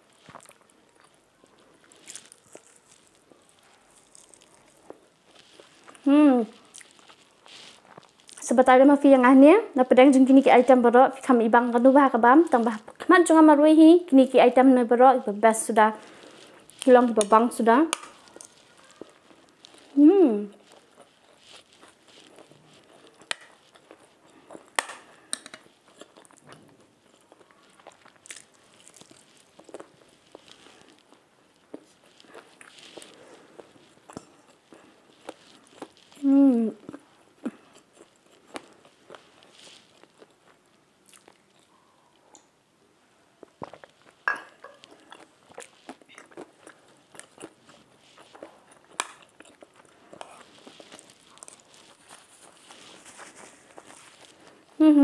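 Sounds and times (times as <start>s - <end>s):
food crunching: 0.0s - 8.6s, 15.9s - 42.5s, 43.4s - 54.9s
soft chewing and mouth sounds: 0.0s - 9.2s, 10.2s - 13.1s, 15.1s - 55.0s.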